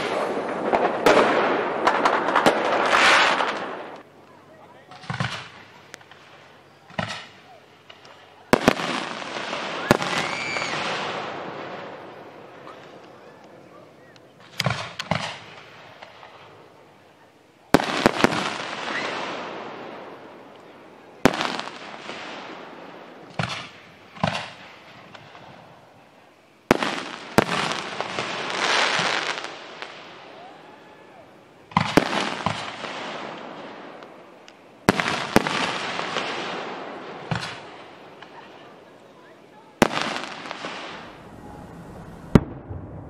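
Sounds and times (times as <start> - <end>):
firework bangs: 0.0 - 4.1, 4.8 - 16.9, 17.6 - 43.0
firework crackling hiss: 0.0 - 43.0.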